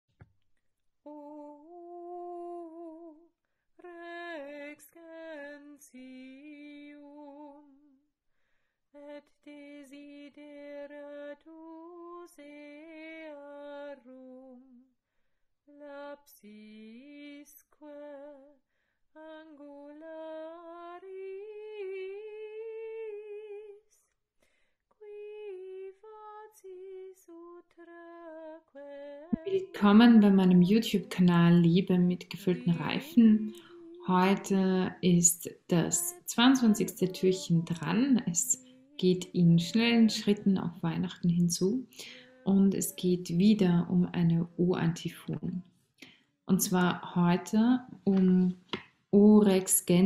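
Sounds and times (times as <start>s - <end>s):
woman singing unaccompanied: 1.0s - 8.0s, 9.0s - 14.9s, 15.7s - 18.6s, 19.2s - 24.0s, 25.0s - 45.6s, 46.5s - 50.0s.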